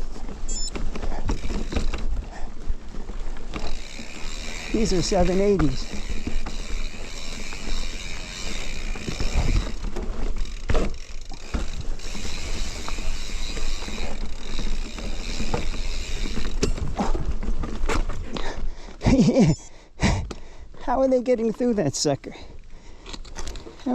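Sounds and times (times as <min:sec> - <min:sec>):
bike drivetrain and frame rattle: 0:00.0 - 0:23.9
bike tyres on dirt trail: 0:00.0 - 0:23.9.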